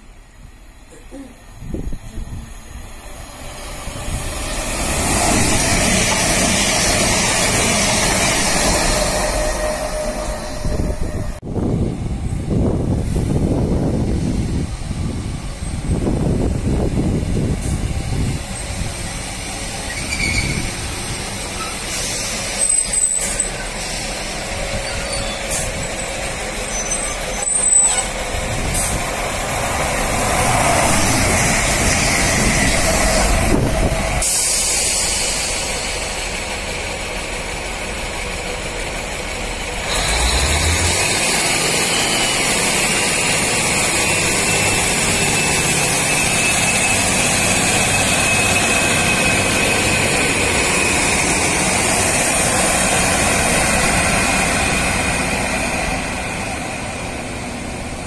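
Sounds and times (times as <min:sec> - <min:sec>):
diesel train engines running: 0:00.0 - 0:58.0.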